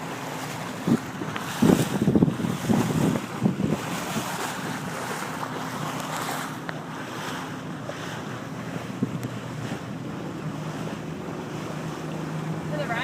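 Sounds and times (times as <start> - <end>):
rushing water: 0.0 - 13.0
speedboat engine drone: 0.0 - 13.0
wind buffeting microphone: 0.0 - 13.0.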